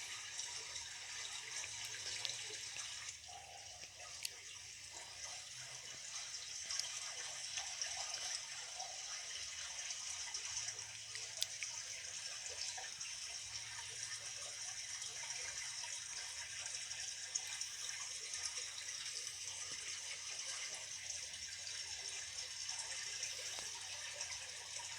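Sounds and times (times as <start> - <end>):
faint drips and clicks: 0.0 - 24.9.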